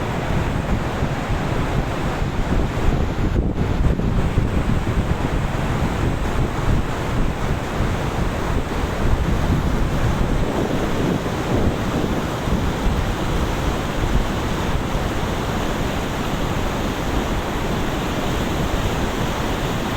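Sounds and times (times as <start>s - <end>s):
river rushing: 0.0s - 19.9s
wind buffeting microphone: 0.0s - 19.9s.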